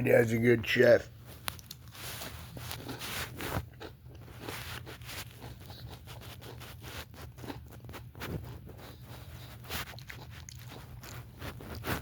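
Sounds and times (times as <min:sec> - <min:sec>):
chewing sandwich crunches: 0:01.4 - 0:12.0.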